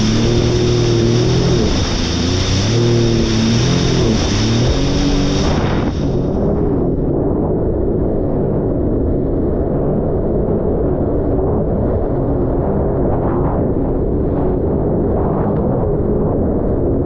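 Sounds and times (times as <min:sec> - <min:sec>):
muffled watercraft engine rumble: 0:00.0 - 0:17.0.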